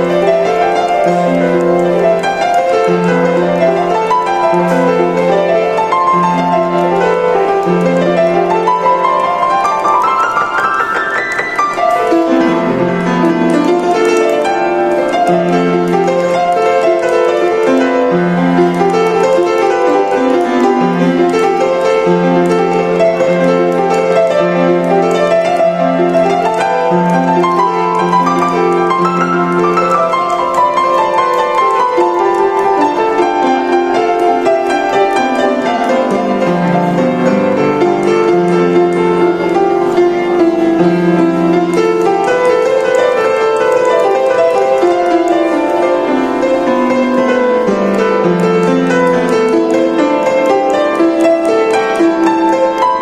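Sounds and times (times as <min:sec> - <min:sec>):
upright piano playing: 0:00.0 - 0:53.0.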